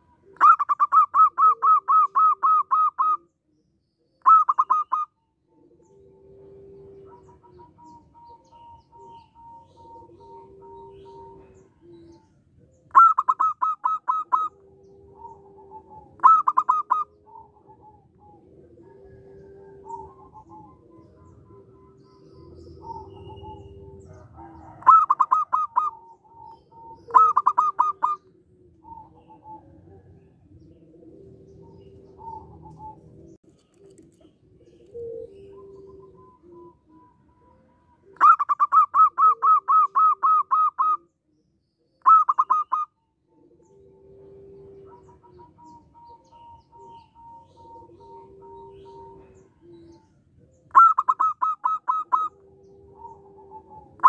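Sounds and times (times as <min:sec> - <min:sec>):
dove cooing staccato bursts: 0:00.0 - 0:03.3, 0:04.2 - 0:41.1, 0:42.0 - 0:54.0
soft steady dove calls: 0:00.0 - 0:54.0.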